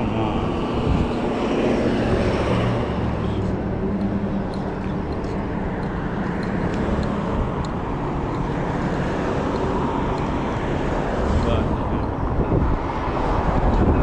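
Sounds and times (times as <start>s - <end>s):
traffic passing: 0.0s - 14.0s
wind and road noise: 0.0s - 14.0s.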